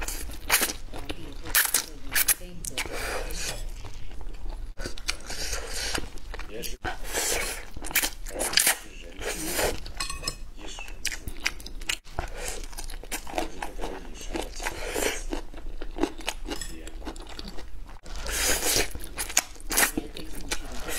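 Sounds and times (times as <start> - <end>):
person slurping and chewing noodles: 0.0 - 20.9.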